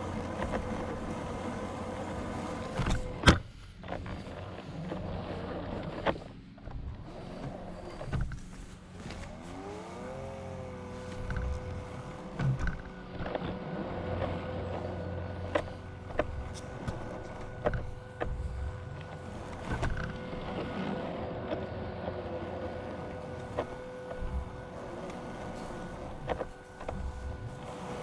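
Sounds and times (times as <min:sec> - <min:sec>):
small motor whining: 0:00.0 - 0:28.0.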